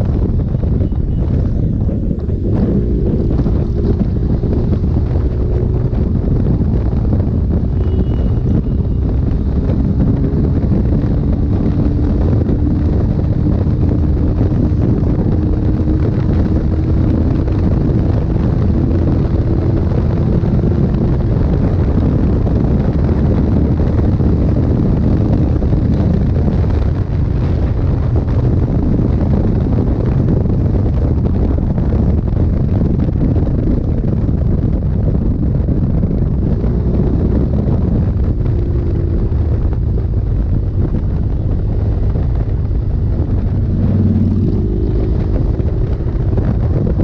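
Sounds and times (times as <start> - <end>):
motorcycle engine accelerating: 0.0 - 47.0
wind noise on microphone: 0.0 - 47.0.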